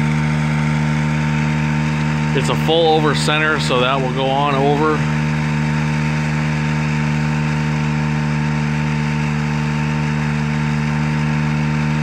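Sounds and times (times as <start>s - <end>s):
truck engine humming: 0.0s - 10.3s.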